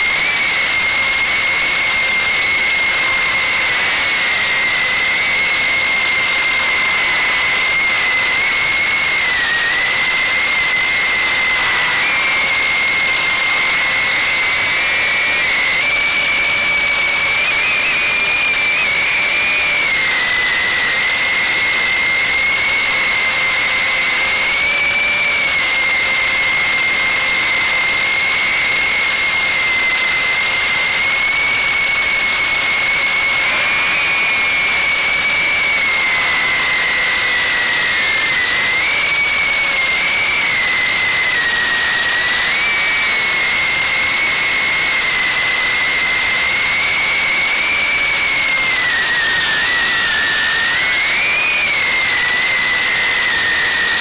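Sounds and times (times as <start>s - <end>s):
quadcopter propellers whining: 0.0s - 54.0s.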